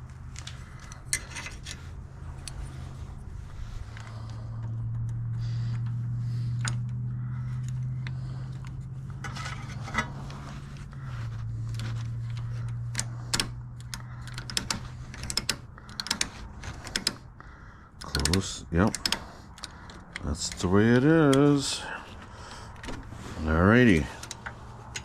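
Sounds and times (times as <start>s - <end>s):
metal parts clinking: 0.0s - 17.3s, 18.0s - 25.0s
steady low hum: 0.0s - 25.0s.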